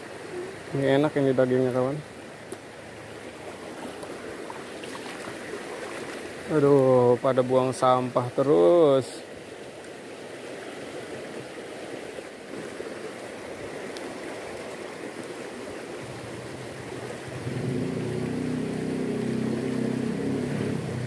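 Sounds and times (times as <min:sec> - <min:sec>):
river current rushing: 0:00.0 - 0:21.0.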